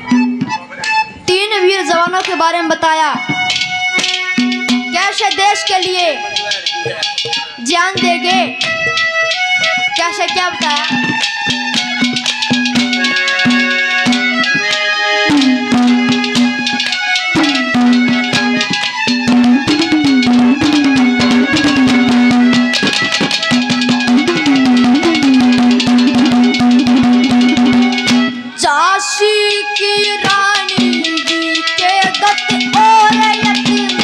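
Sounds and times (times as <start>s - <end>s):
held pitched tones: 0.0s - 34.0s
fast hand drum rhythm: 3.4s - 28.4s, 29.8s - 34.0s.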